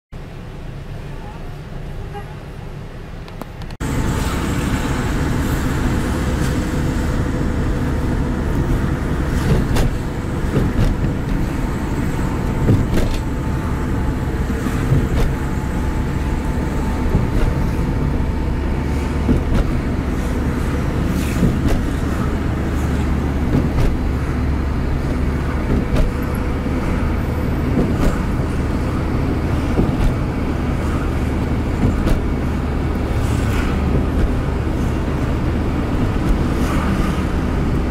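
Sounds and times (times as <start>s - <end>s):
car engine and tyre rumble: 0.1s - 37.9s.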